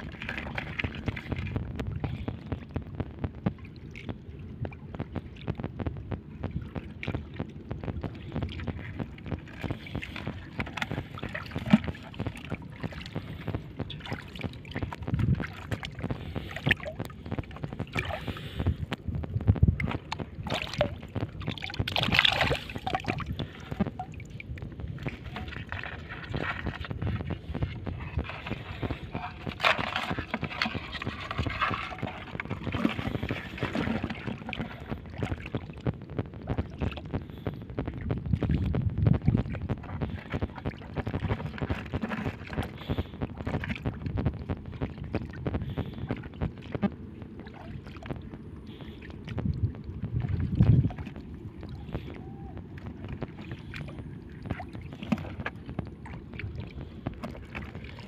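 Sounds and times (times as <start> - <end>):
seawater sloshing and splashing: 0.0 - 58.0.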